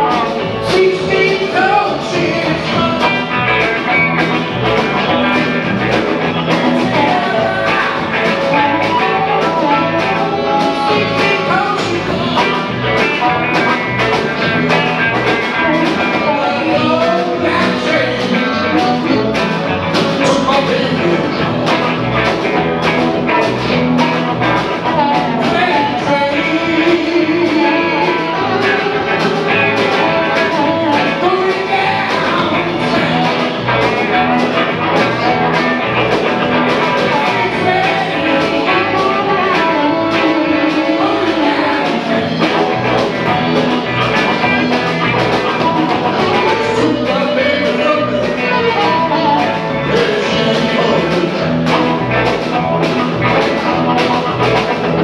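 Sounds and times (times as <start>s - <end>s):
harmonica wailing: 0.0s - 55.0s
rock band playing blues shuffle: 0.0s - 55.0s.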